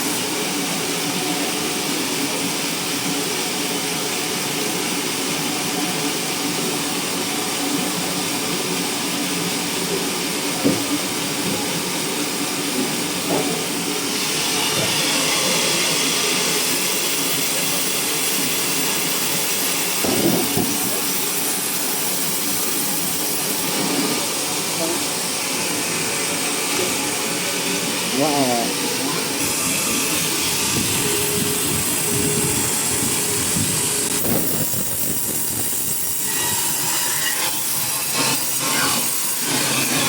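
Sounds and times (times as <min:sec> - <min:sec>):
sawmill machinery humming: 0:00.0 - 0:40.0.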